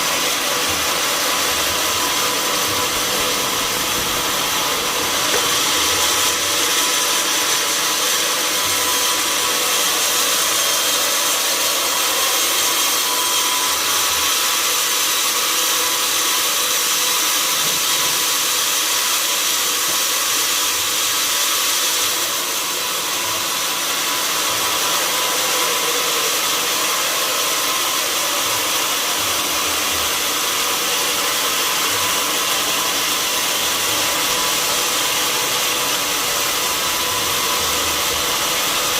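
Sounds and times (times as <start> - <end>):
saw cutting log: 0.0 - 38.9.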